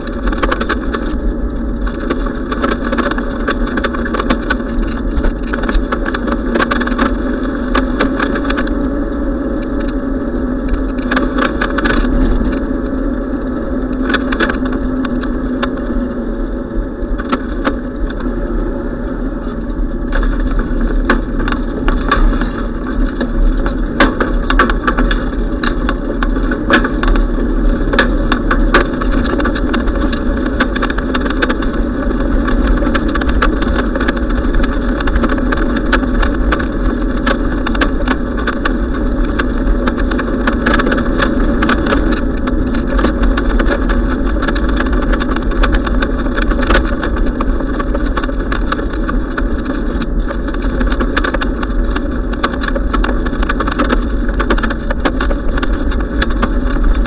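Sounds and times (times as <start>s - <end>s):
tyre rumble on asphalt: 0.0s - 57.0s.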